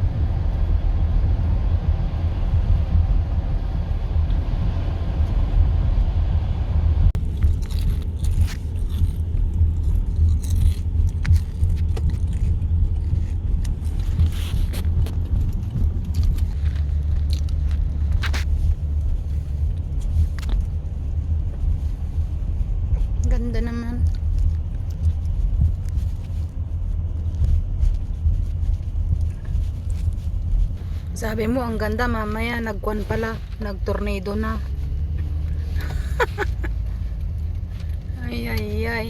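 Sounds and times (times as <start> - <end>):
low rumble inside a car: 0.0 - 39.0.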